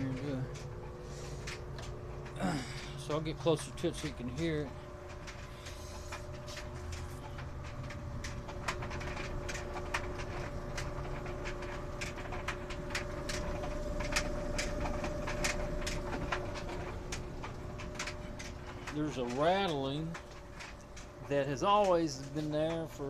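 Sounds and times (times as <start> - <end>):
clothes dryer drum rumbling: 0.0 - 23.0
light rattling clicks: 0.0 - 23.0.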